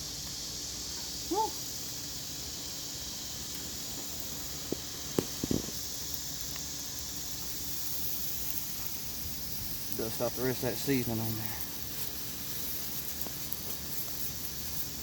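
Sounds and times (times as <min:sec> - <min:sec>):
fish sizzling on a grill: 0:00.0 - 0:15.0.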